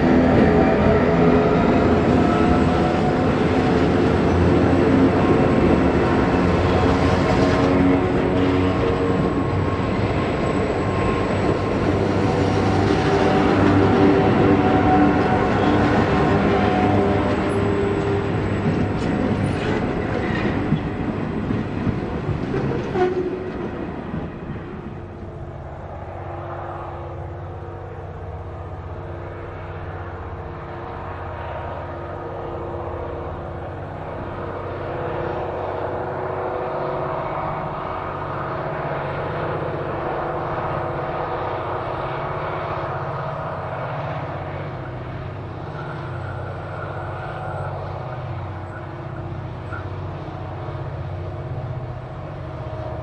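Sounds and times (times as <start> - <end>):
distant locomotive drone: 0.0 - 53.0.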